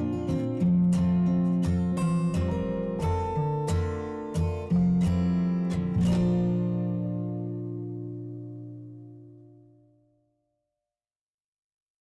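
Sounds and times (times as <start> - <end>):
guitar music: 0.0 - 10.2.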